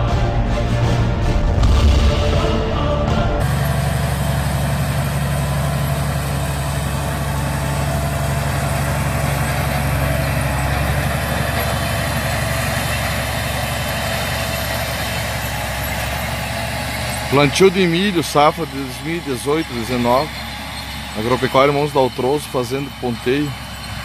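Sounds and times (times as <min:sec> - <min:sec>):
tractor diesel engine under load: 0:00.0 - 0:24.0
even mechanical noise: 0:01.4 - 0:24.0.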